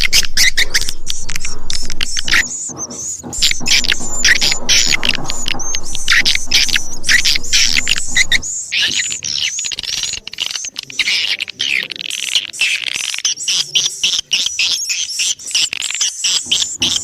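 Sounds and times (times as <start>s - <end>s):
swiftlets chirping and twittering: 0.0s - 17.0s.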